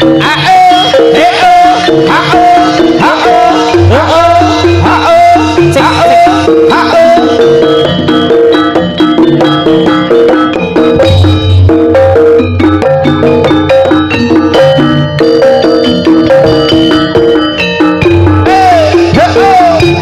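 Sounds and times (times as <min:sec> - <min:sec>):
metal percussion notes: 0:00.0 - 0:20.0
pulsing low drum: 0:02.0 - 0:20.0.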